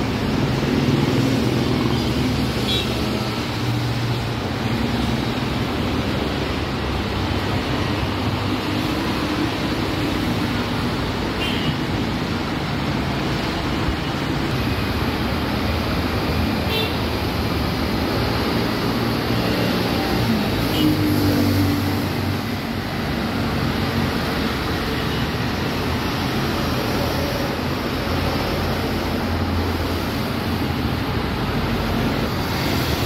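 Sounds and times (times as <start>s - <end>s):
highway traffic hum: 0.0s - 33.0s.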